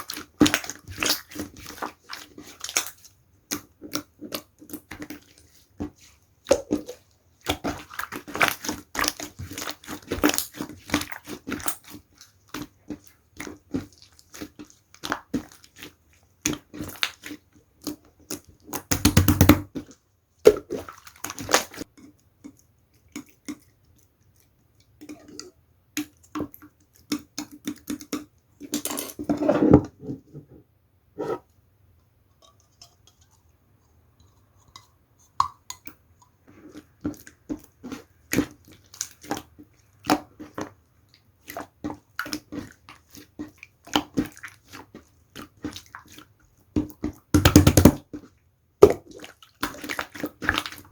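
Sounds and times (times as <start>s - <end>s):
slime squish: 0.0s - 28.8s, 32.4s - 50.9s.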